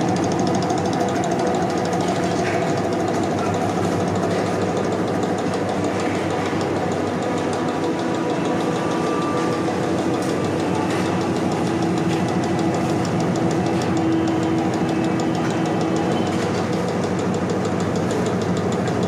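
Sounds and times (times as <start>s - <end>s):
cutting machine humming: 0.0s - 19.0s
fast even machine ticking: 0.0s - 19.0s.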